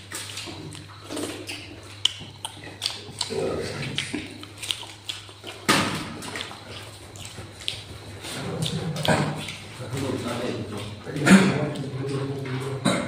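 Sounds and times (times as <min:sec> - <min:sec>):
wet chewing with lip smacks: 0:00.0 - 0:12.8.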